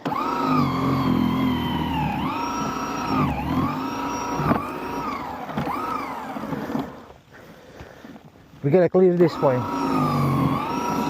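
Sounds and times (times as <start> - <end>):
snow thrower motor whining: 0.0 - 8.2, 9.0 - 11.0.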